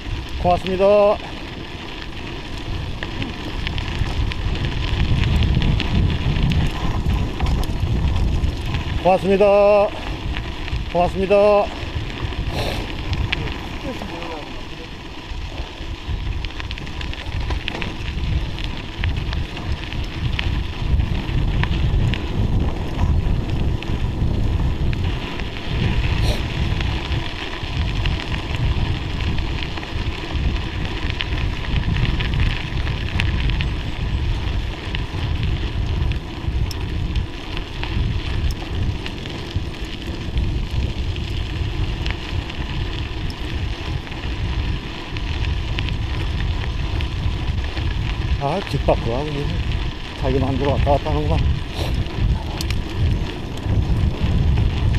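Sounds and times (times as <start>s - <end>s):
bike tyres crackling over snow: 0.0s - 54.9s
wind buffeting microphone: 0.0s - 54.9s.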